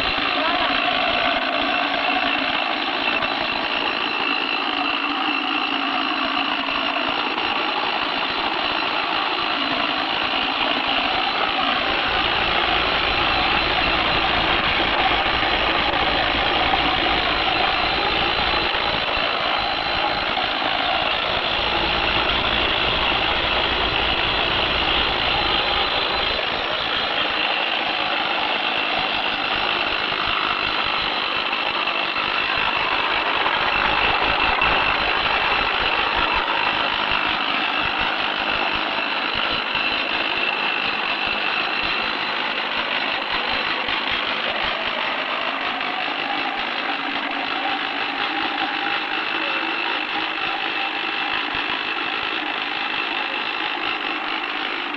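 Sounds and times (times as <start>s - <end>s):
hydraulic rock drill hammering: 0.0s - 54.9s.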